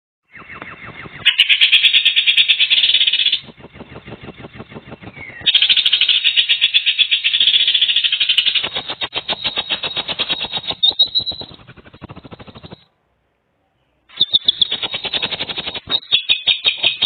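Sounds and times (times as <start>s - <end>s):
bird's buzzy trill: 0.3s - 12.9s, 14.1s - 17.0s.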